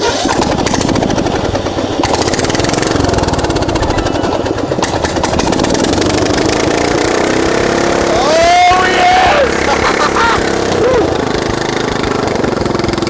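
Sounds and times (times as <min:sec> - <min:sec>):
small lawn mower engine running: 0:00.0 - 0:13.0.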